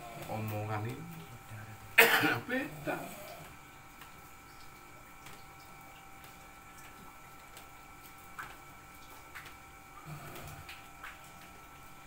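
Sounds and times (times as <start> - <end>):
faint electrical whine: 0.0 - 12.0.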